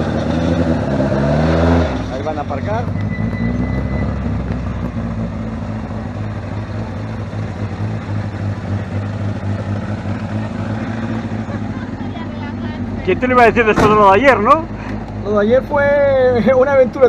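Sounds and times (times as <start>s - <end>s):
car engine idling: 1.9s - 17.0s.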